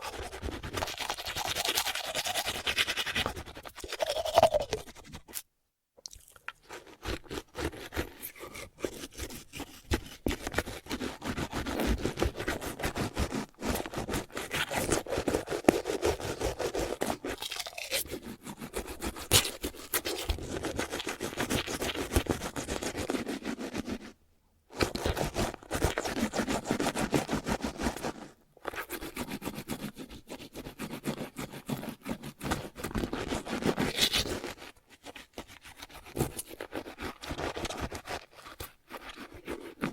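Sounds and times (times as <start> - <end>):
toothbrush scrubbing teeth: 0.0 - 5.5, 6.1 - 24.1, 24.8 - 39.9.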